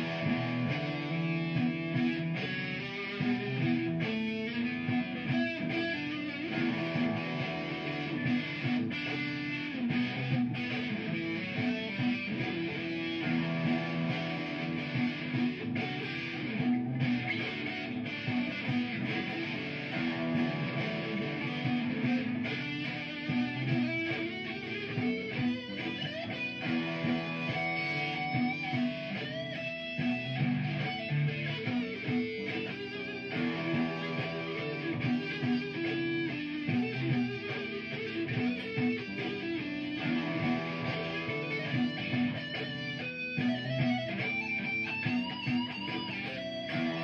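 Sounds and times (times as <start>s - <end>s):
electric guitar solo: 0.0s - 47.0s
looped guitar backing: 0.0s - 47.0s.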